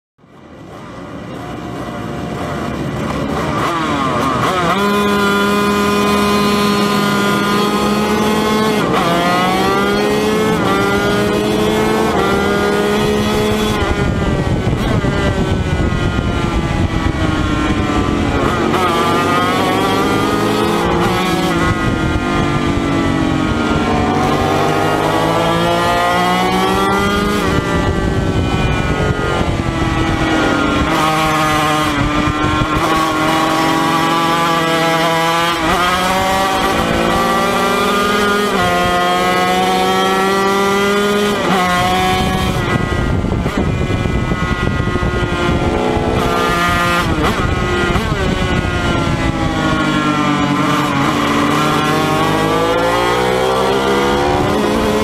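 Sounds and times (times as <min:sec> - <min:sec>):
racing motorcycle engine revving: 0:00.2 - 0:55.0.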